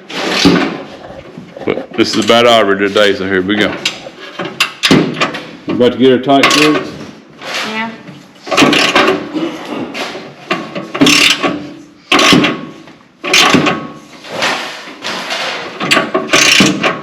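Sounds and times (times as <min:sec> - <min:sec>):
ratchet clanking and scraping: 0:00.0 - 0:09.4, 0:10.0 - 0:17.0.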